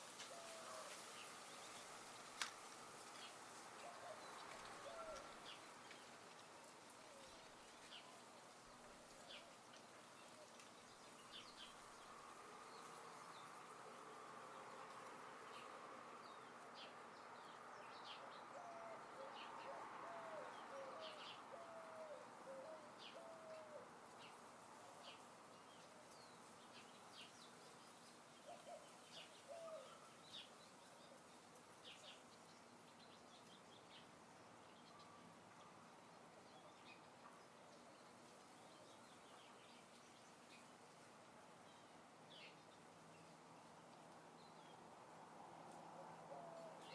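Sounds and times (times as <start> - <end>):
soft wind hiss: 0.0 - 46.9.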